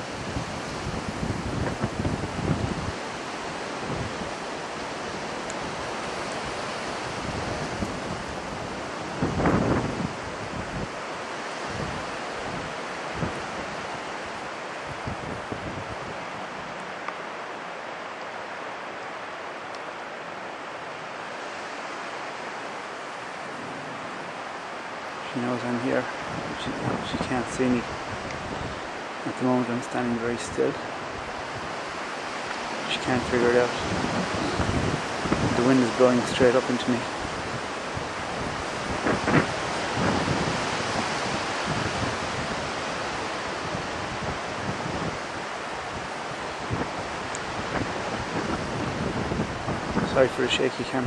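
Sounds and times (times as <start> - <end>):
wind through bushes and grass: 0.0 - 51.0.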